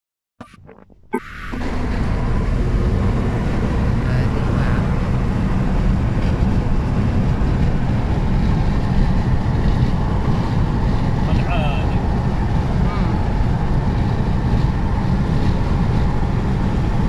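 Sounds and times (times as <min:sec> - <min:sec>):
car road and wind noise: 0:00.4 - 0:17.0.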